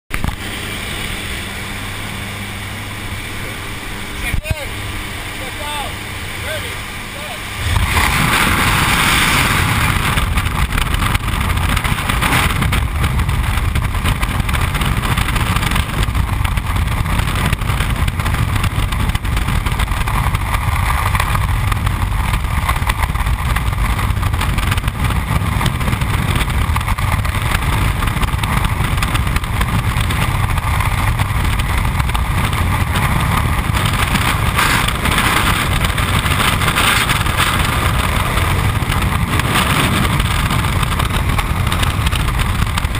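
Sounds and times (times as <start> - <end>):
wind rushing over microphone: 0.1 - 42.9.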